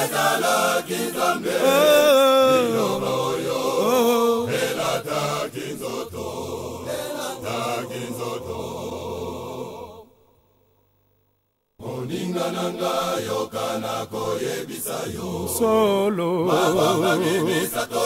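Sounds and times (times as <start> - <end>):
men's choir singing gospel: 0.0 - 10.1, 11.8 - 18.0.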